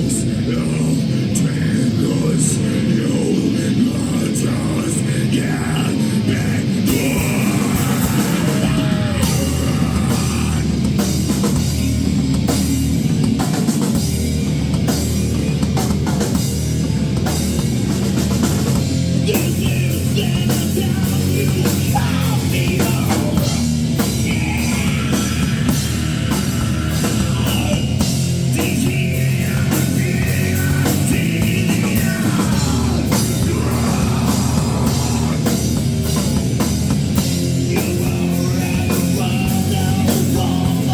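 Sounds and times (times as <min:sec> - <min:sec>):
distorted guitars: 0:00.0 - 0:40.9
heavy drum kit: 0:00.0 - 0:40.9
rock band playing: 0:00.0 - 0:40.9.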